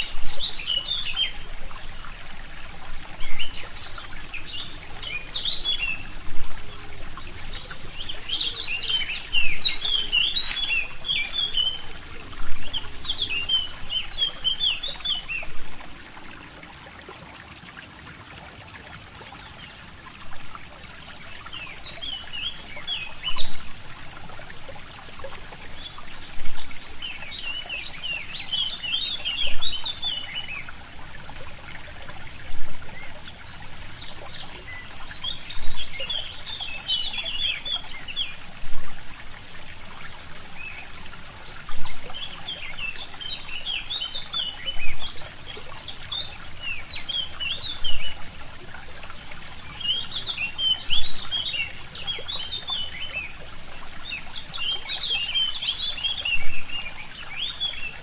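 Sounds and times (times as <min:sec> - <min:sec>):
songbirds twittering: 0:00.0 - 0:16.0, 0:19.5 - 0:23.9, 0:24.6 - 0:58.0
stream trickling: 0:00.0 - 0:58.0.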